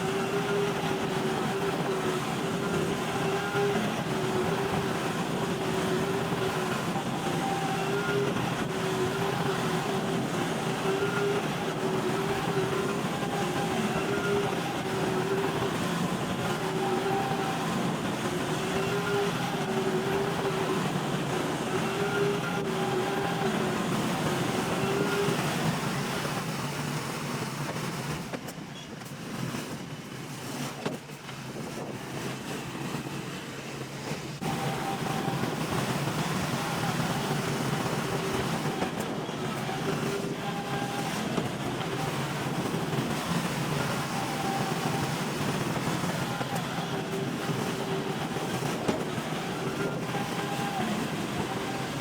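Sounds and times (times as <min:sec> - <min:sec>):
bulldozer engine under load: 0:00.0 - 0:52.0.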